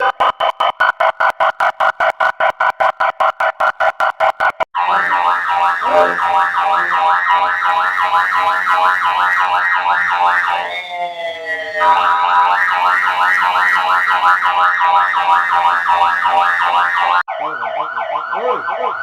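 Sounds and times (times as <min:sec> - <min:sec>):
emergency siren yelping: 0:00.0 - 0:02.7, 0:04.8 - 0:19.0.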